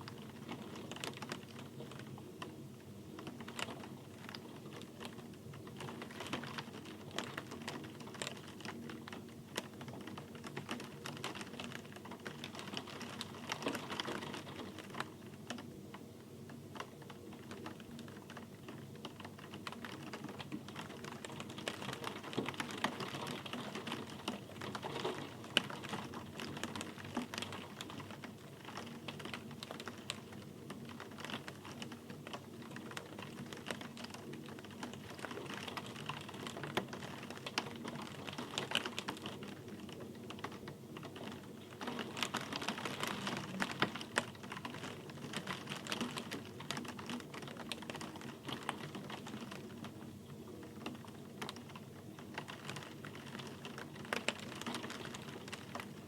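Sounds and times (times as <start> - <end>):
rain drops on hard surface: 0.0 - 56.0.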